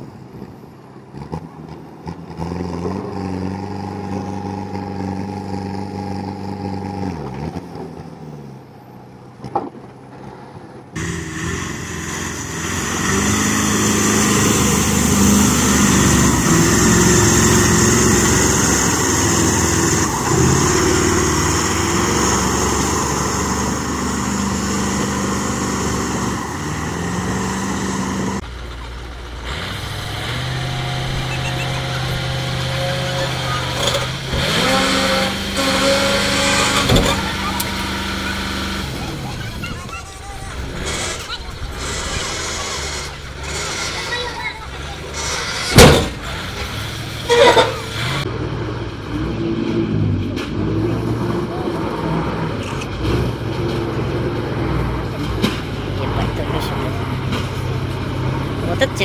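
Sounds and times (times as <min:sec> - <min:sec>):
heavy truck engine running: 0:00.0 - 0:59.0.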